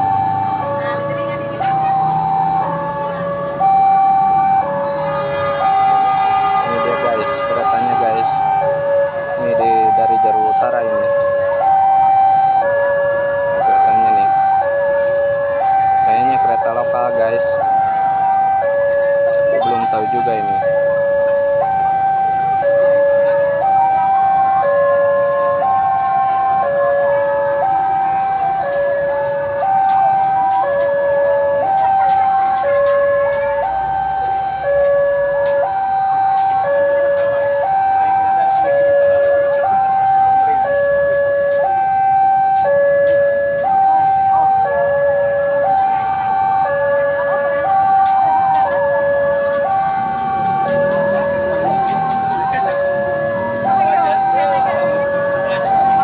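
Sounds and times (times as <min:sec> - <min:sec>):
two-tone electronic alarm: 0:00.0 - 0:56.0.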